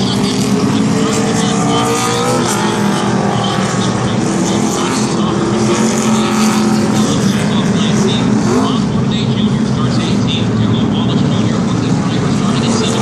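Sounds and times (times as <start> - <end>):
race truck engines droning: 0.0 - 13.0.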